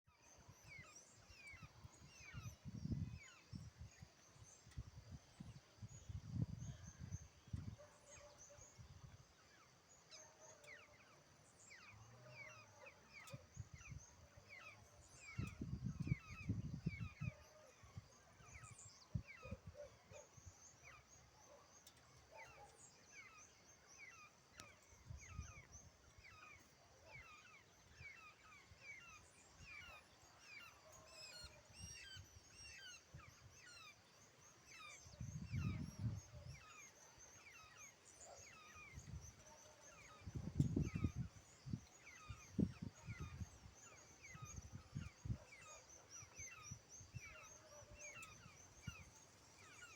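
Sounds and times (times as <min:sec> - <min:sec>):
small birds chirping: 0:00.1 - 0:49.9.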